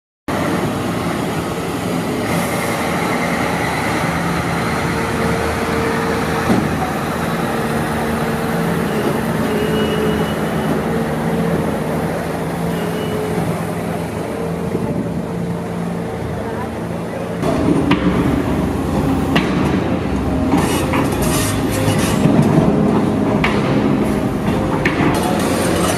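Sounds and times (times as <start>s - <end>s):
diesel truck engine running: 0.3s - 25.9s.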